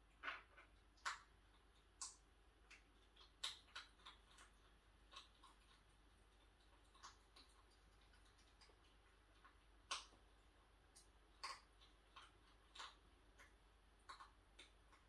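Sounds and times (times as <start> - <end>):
hedgehog crunching food: 0.2 - 15.0.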